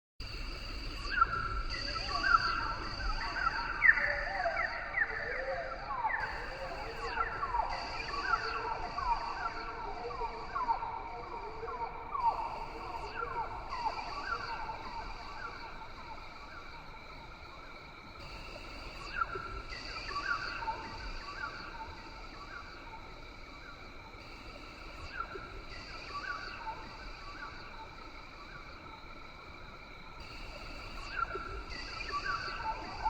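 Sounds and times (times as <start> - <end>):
insects chorus: 0.2 - 33.0.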